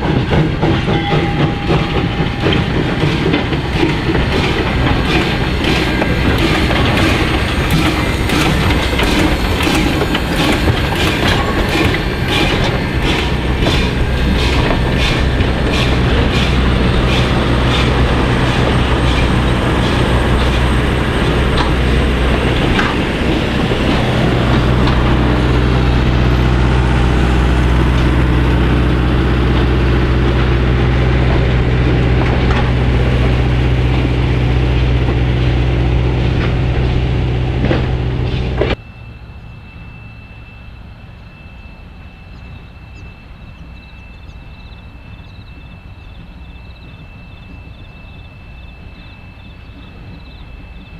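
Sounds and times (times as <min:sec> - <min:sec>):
railway cars rumbling past: 0:00.0 - 0:50.9
steam locomotive chuffing: 0:00.0 - 0:50.9.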